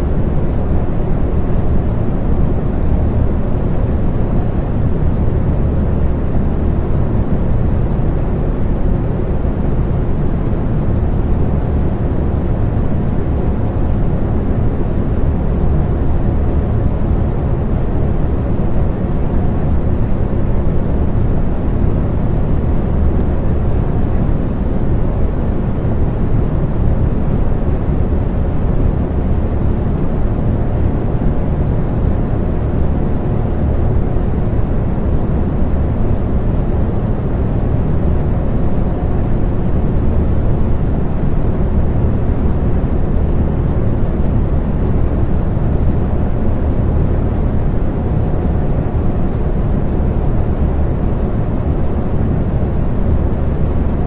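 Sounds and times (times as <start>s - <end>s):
low fan hum: 0.0s - 54.0s.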